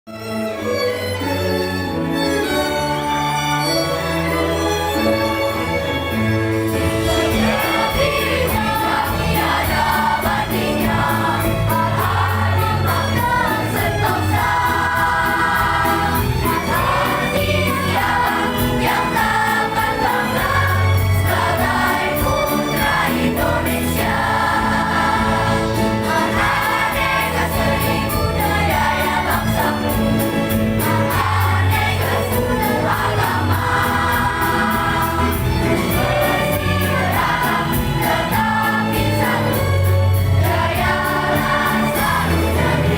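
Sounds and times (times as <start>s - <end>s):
instrumental accompaniment with beat: 2.0s - 42.9s
children's choir singing: 2.4s - 42.9s.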